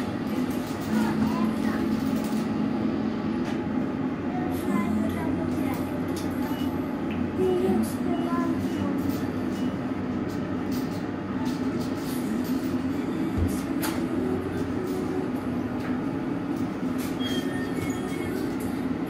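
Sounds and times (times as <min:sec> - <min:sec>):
furnace and burners rumbling: 0:00.0 - 0:19.0.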